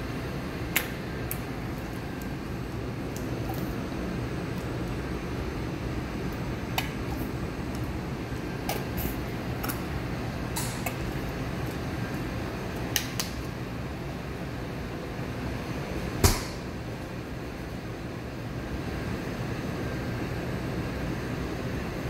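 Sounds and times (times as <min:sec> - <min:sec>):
fan hum: 0:00.0 - 0:22.0.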